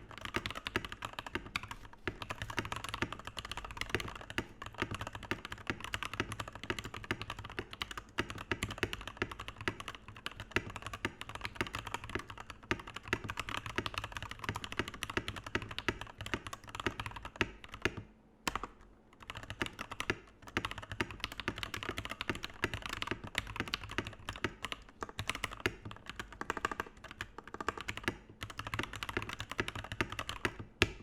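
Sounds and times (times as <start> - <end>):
typing on mechanical keyboard: 0.0 - 31.0.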